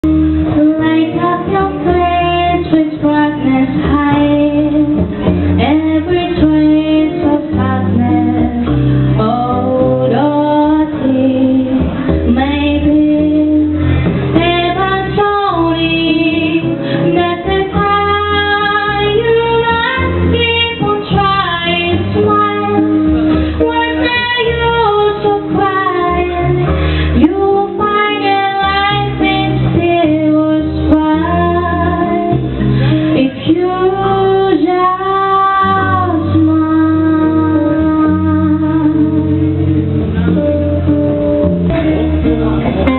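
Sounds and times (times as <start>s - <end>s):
bass line: 0.0s - 42.9s
guitar: 0.0s - 42.9s
woman singing: 0.4s - 39.6s.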